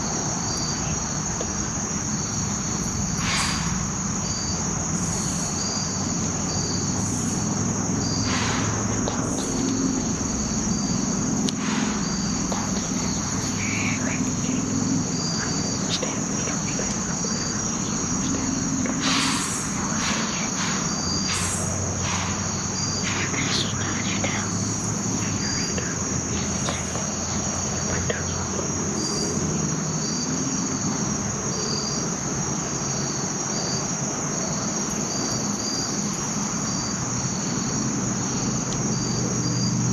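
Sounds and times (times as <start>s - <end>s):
insects trilling: 0.0s - 39.9s
pulsing insect call: 0.0s - 39.9s.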